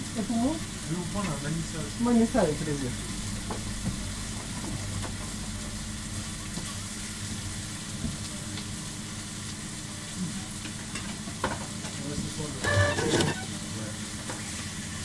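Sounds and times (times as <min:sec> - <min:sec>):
chicken sizzling on a griddle: 0:00.0 - 0:15.0.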